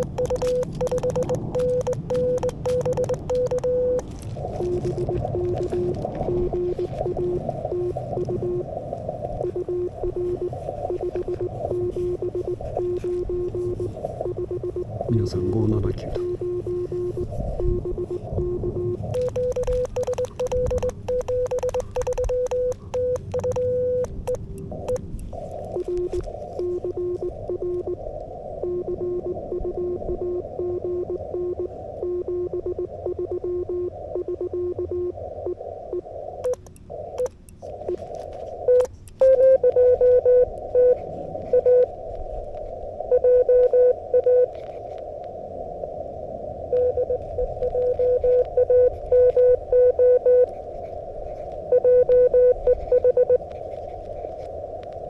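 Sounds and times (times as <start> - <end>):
morse code tone: 0.0 - 28.0, 28.6 - 37.3, 38.6 - 41.9, 43.1 - 44.8, 46.7 - 50.9, 51.7 - 54.4
receiver hiss: 0.0 - 55.0.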